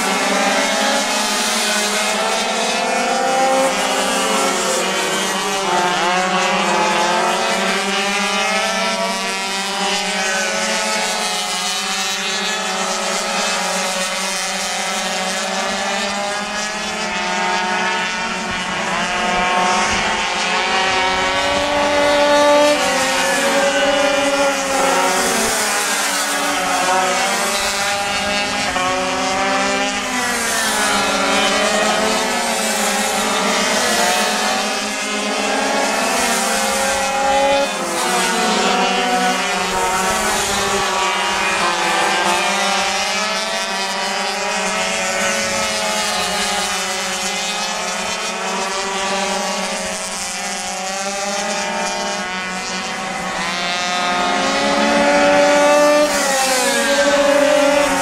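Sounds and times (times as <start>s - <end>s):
small two-stroke engines revving: 0.0s - 58.0s.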